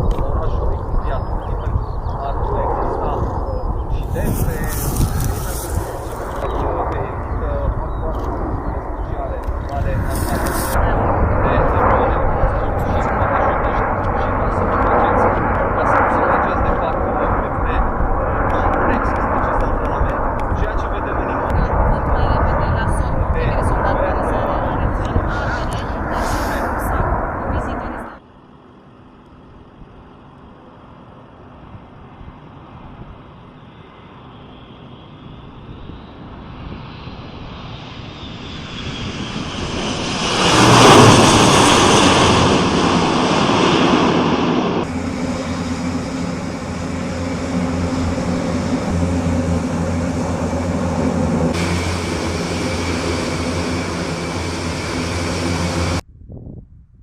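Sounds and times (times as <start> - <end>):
propeller aircraft passing: 0.0 - 56.1
propeller engine drone: 0.0 - 56.1.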